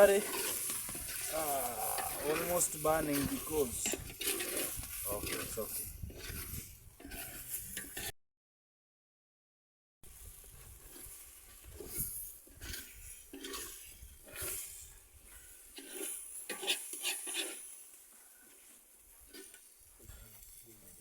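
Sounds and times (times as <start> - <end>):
spoon scraping eggs in a pan: 0.0 - 8.1, 10.2 - 21.0.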